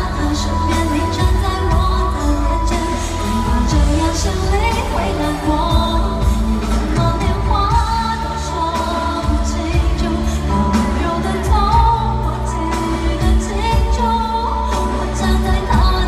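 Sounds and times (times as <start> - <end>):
band backing track with heavy bass: 0.0 - 16.0
woman singing into a microphone: 0.0 - 16.0.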